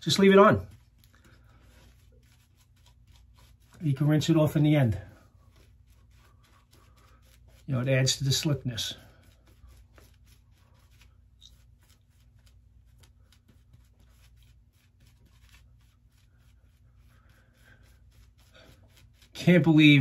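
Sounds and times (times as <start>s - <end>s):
razor scraping stubble: 0.0s - 20.0s.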